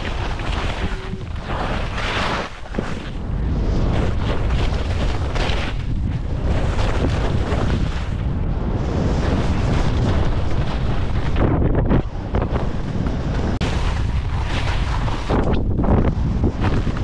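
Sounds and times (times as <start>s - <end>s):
skis scraping over snow: 0.0s - 17.0s
wind buffeting microphone: 0.0s - 17.0s.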